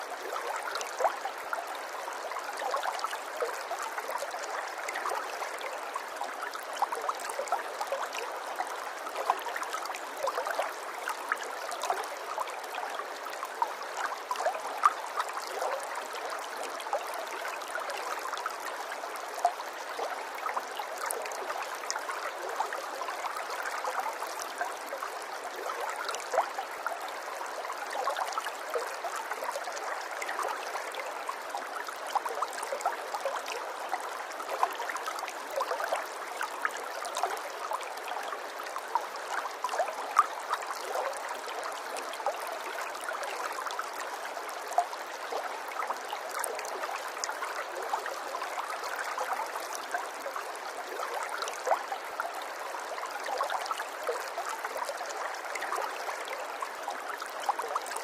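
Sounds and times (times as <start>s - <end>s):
water babbling and trickling: 0.0s - 58.0s.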